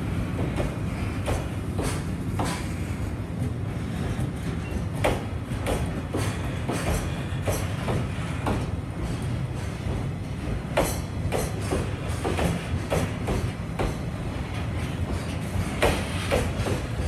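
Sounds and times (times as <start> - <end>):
freight train rolling past: 0.0 - 17.0
wheels clacking on rail joints: 0.4 - 17.0.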